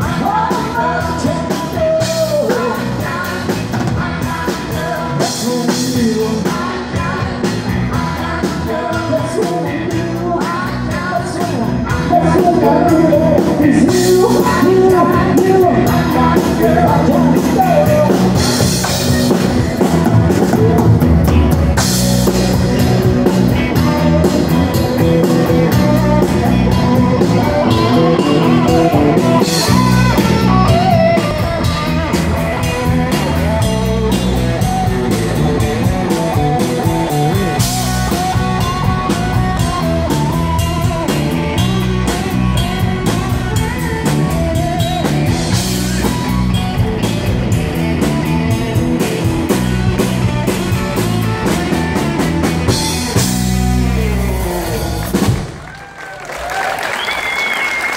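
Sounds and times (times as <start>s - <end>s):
drum kit beat: 0.0s - 55.6s
electric guitars: 0.0s - 57.9s.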